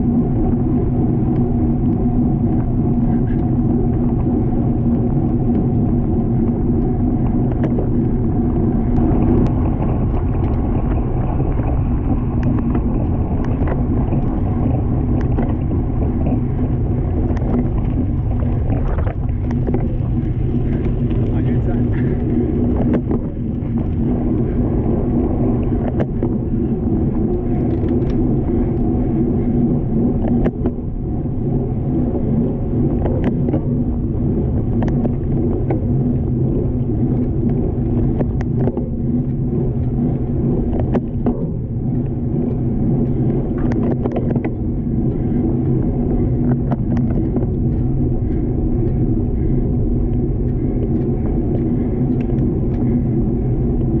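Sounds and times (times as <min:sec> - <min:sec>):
road and wind rumble: 0:00.0 - 0:54.0.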